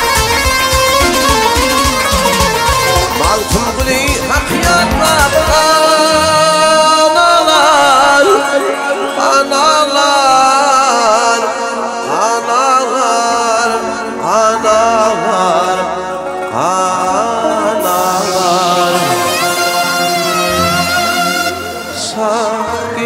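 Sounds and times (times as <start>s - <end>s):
lead melody with pitch slides: 0.0s - 10.2s, 13.8s - 23.0s.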